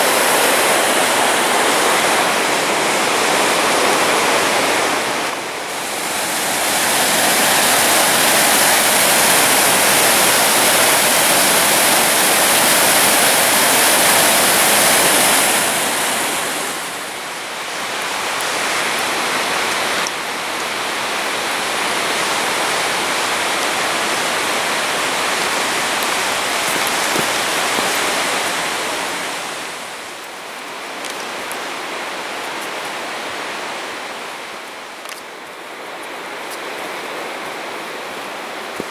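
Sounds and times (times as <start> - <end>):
creek water rushing: 0.0 - 38.9.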